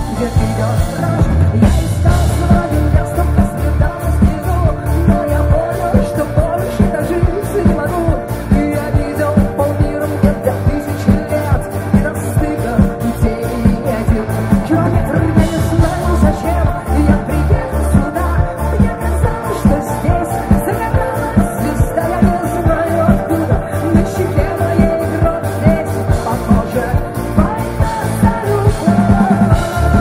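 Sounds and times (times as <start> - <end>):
live rock band through pa: 0.0 - 30.0
steady drum beat: 0.0 - 30.0.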